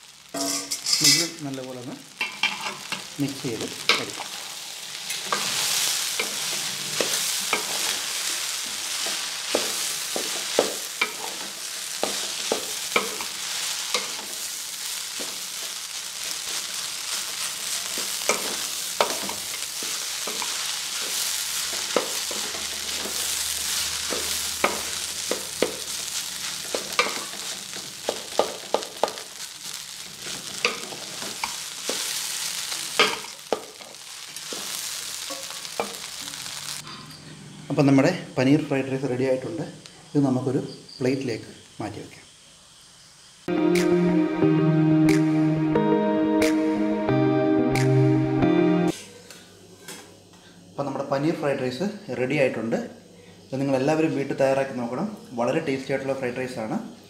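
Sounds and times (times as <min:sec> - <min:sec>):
rice sizzling in a pot: 0:00.0 - 0:37.2, 0:37.9 - 0:44.3, 0:48.9 - 0:57.0.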